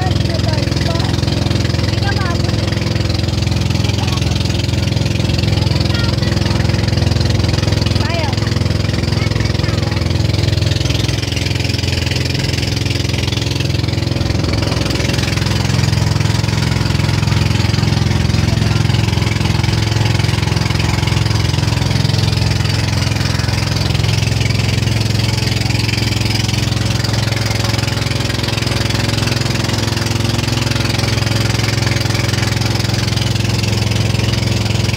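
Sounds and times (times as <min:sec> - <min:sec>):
boat engine running: 0:00.0 - 0:34.9
wind: 0:00.0 - 0:34.9.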